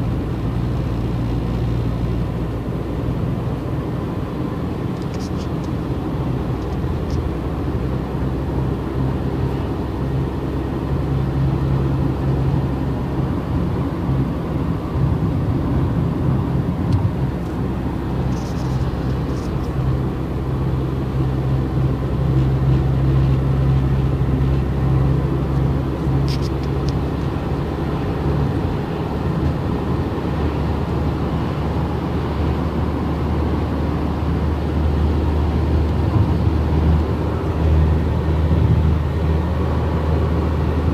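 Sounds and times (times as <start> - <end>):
car engine hum: 0.0 - 40.9
road noise: 0.0 - 40.9.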